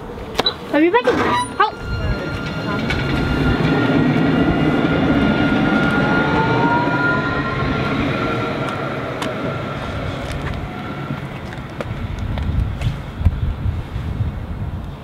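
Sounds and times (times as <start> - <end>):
tram rumble: 0.0 - 15.0.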